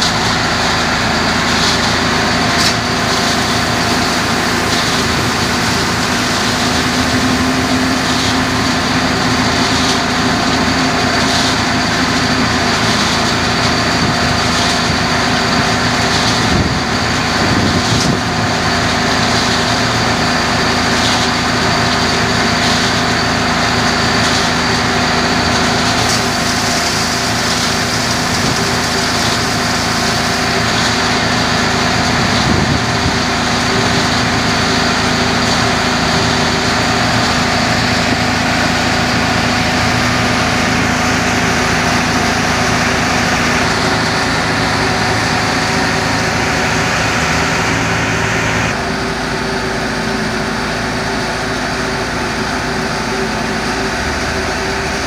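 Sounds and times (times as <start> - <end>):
concrete mixer pump running: 0.0 - 55.0.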